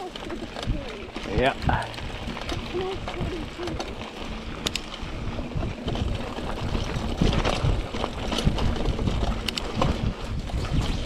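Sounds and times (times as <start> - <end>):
bike clicks and rattles: 0.0 - 11.0
bike tyres rumbling on dirt trail: 0.0 - 11.0
wind on microphone: 0.0 - 11.0.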